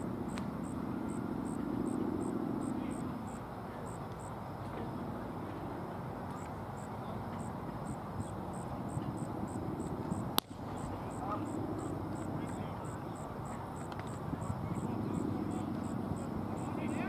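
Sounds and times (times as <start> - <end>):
insect chirping: 0.0 - 4.4, 6.4 - 17.0
distant road traffic hum: 0.0 - 17.0.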